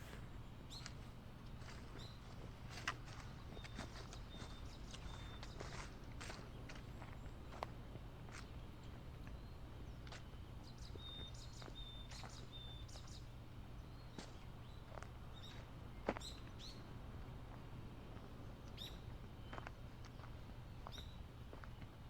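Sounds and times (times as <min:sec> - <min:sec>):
small birds chirping: 0:00.0 - 0:07.6, 0:08.3 - 0:16.9, 0:18.6 - 0:21.7.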